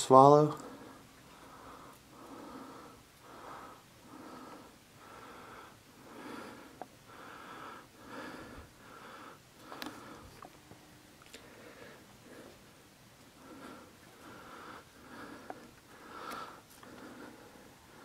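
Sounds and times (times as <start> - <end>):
man breathing heavily: 0.6 - 10.5, 11.3 - 18.0.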